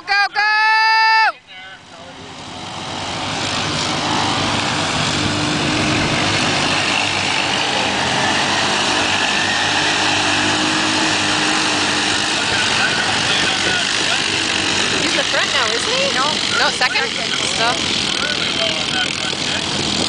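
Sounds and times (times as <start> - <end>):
quad engines racing: 0.0 - 20.0.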